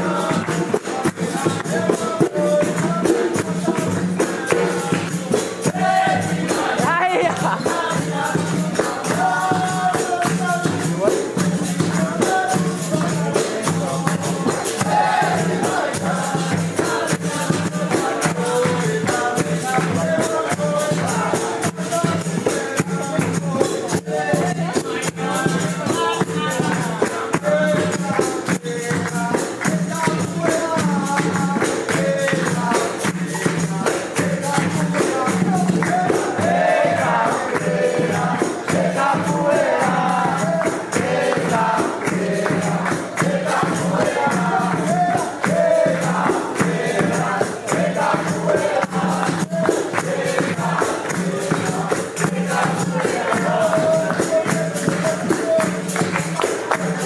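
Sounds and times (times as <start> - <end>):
group singing: 0.0 - 57.0.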